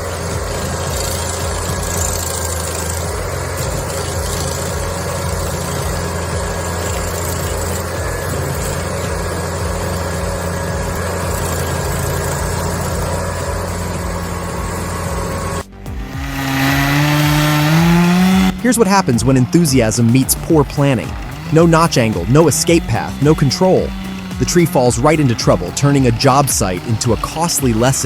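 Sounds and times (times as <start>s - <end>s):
stump grinder engine running: 0.0s - 28.0s.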